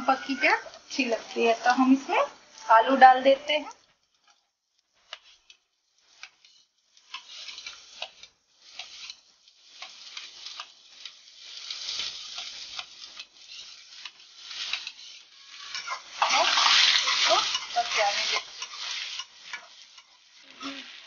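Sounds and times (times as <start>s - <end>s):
potatoes sizzling in hot oil: 0.0s - 21.0s.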